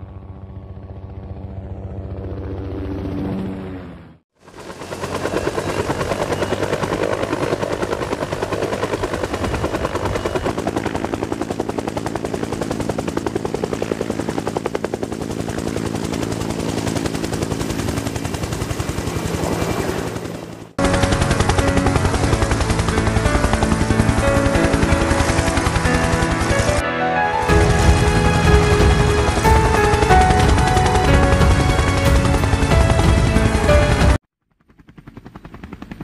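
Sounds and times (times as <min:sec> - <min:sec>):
helicopter rotor chop: 0:00.0 - 0:36.0
loud pulsing helicopter-like sound: 0:00.0 - 0:36.0.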